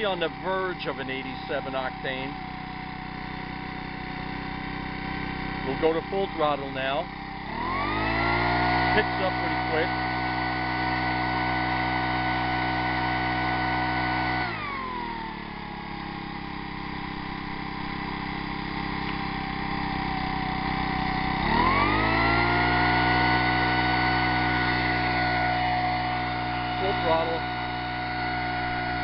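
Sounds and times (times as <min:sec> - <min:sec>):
leaf blower engine revving: 0:00.0 - 0:29.0.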